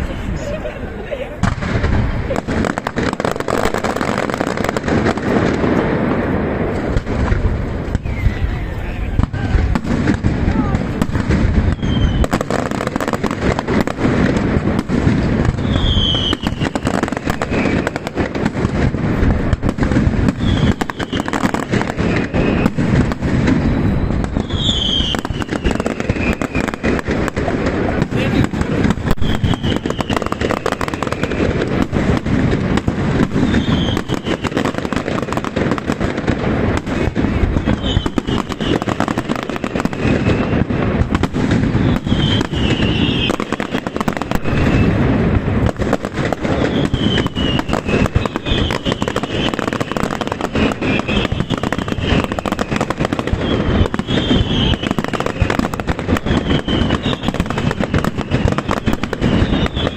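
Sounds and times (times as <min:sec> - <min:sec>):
fireworks crackling and banging: 0:00.0 - 0:59.9
falling firework whistles: 0:01.4 - 0:59.9.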